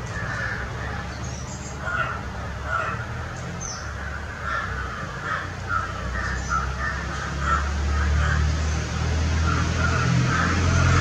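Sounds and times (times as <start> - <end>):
crows cawing: 0.0 - 1.2, 1.8 - 8.6, 9.4 - 11.0.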